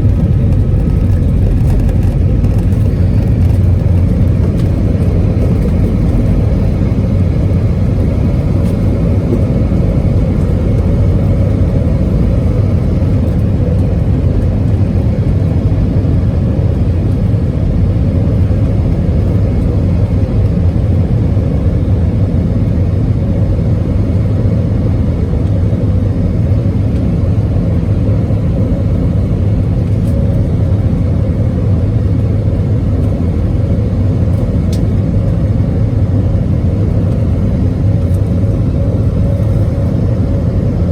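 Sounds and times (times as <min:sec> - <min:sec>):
moving vehicle rumble: 0:00.0 - 0:40.9.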